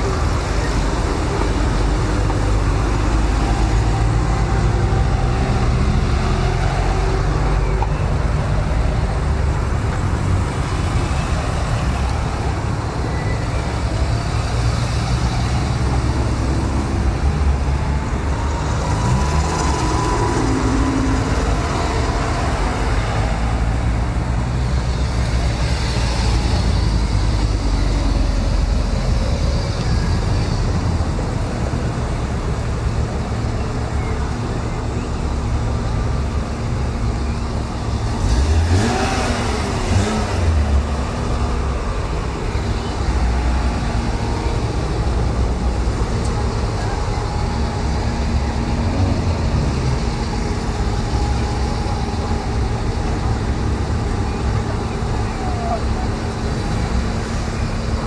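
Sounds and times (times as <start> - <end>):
low rumble of road traffic: 0.0 - 58.0
sports car engines passing: 0.0 - 58.0.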